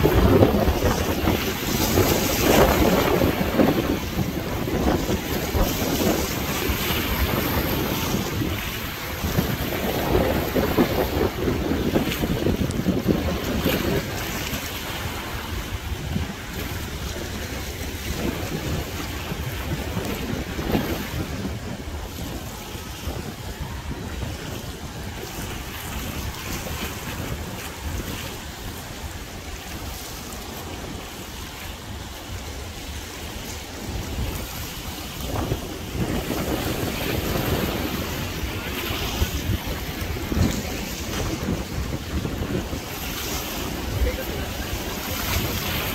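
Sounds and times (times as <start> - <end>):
rushing water: 0.0 - 45.9
wind buffeting microphone: 0.0 - 45.9.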